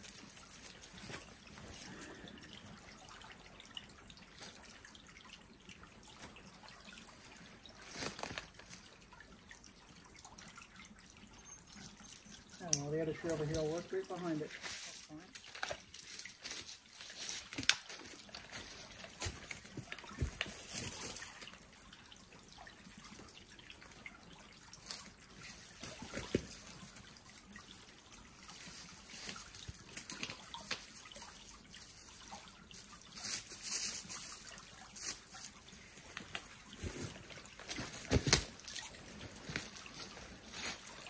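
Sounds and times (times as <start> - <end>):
stream trickling: 0.0 - 41.0.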